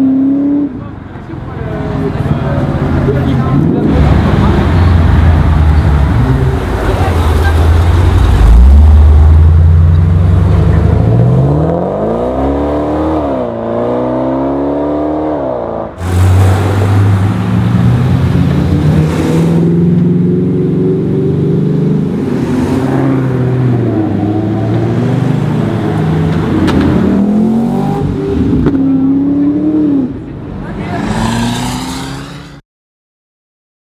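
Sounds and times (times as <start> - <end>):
car engine accelerating hard: 0.0 - 32.6
engine revving: 3.1 - 32.6.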